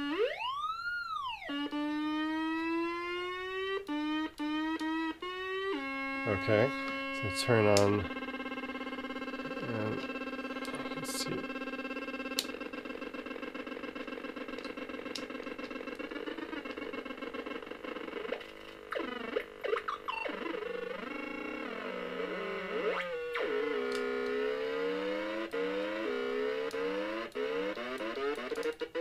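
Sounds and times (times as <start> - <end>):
buzzy synth drone with pitch glides: 0.0 - 29.0.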